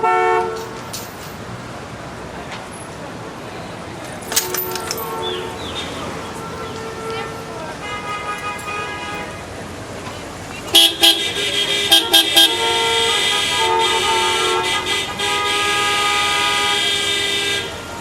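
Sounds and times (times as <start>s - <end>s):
car horns honking: 0.0s - 1.3s, 4.2s - 18.0s
traffic hum: 0.0s - 18.0s.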